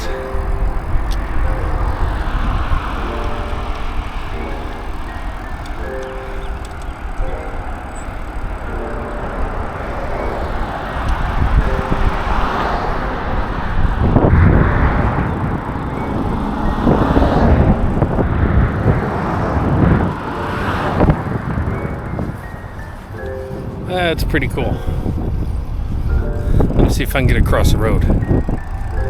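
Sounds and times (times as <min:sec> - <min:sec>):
road rumble: 0:00.0 - 0:29.0
wind buffeting microphone: 0:00.0 - 0:29.0.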